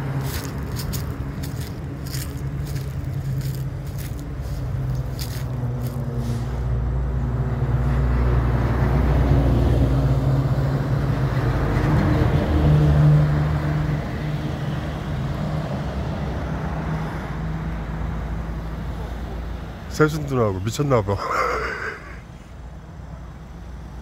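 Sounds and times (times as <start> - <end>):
vehicle passing: 0.0 - 22.5.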